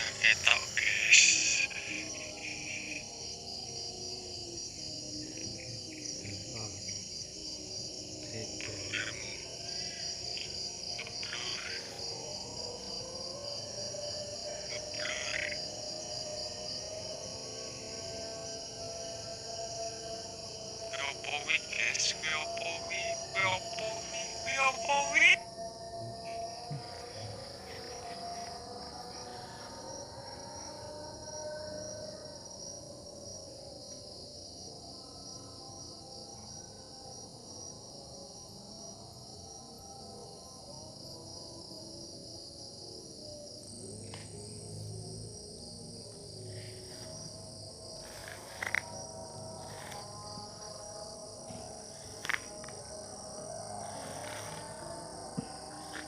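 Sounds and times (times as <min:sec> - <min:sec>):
crickets trilling: 0:00.0 - 0:56.0
insects chirring: 0:00.0 - 0:56.0.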